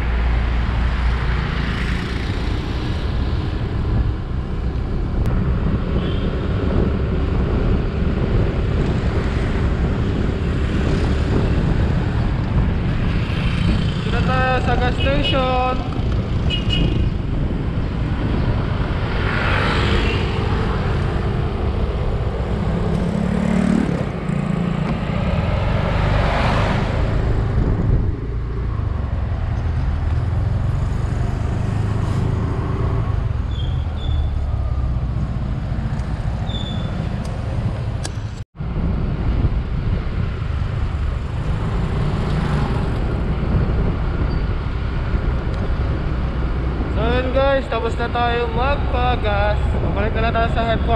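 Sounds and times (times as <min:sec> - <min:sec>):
vehicles passing: 0:00.0 - 0:50.9
wind on microphone: 0:00.1 - 0:50.9.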